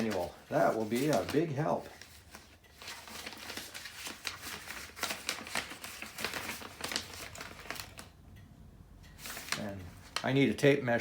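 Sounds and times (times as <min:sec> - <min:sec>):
packaging crinkling and clicking: 0:00.0 - 0:08.2, 0:09.2 - 0:10.4.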